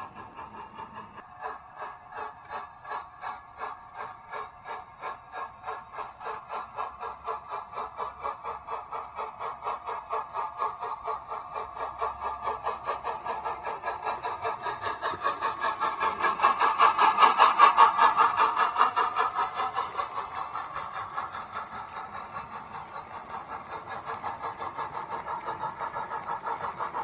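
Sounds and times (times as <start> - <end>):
model train rhythmic beat: 0.0 - 27.0.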